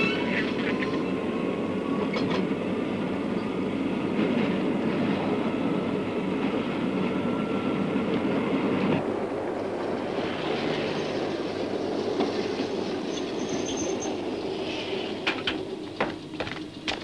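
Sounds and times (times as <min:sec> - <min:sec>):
tram rumbling and rattling: 0:00.0 - 0:17.0.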